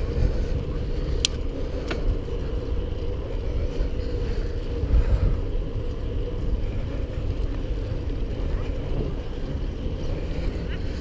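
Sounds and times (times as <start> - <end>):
steady hum: 0.0 - 11.0
wind buffeting microphone: 0.0 - 11.0.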